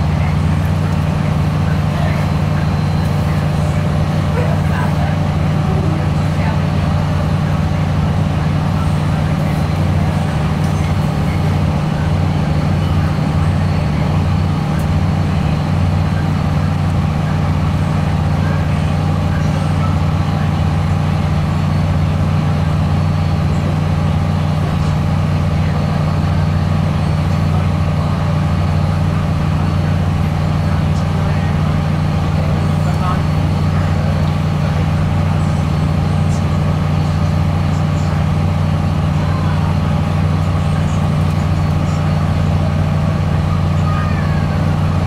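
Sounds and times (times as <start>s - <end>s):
train engine and running noise: 0.0s - 45.0s.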